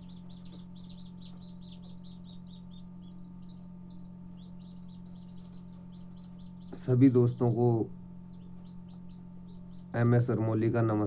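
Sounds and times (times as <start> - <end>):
chicks peeping: 0.0 - 11.0
low hum: 0.0 - 11.0.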